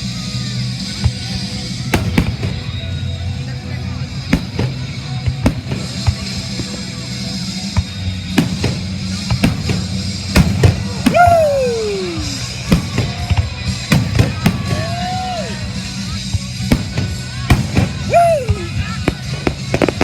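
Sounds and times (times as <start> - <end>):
music playing: 0.0 - 20.0
fireworks bangs and cracks: 0.8 - 20.0.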